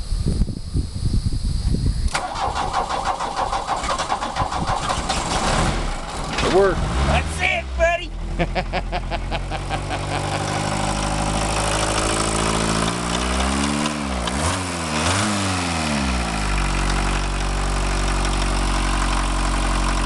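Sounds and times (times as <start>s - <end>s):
diesel engine idling and revving: 2.3s - 20.0s.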